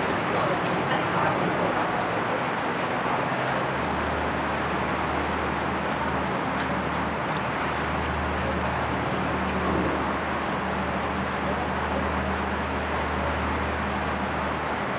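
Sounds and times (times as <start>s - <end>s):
constant rushing noise: 0.0s - 14.9s
low engine hum: 0.0s - 14.9s.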